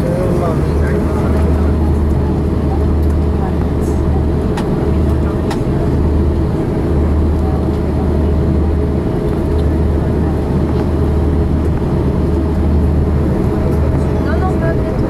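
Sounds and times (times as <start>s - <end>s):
aircraft cabin rumble while taxiing: 0.0s - 15.0s.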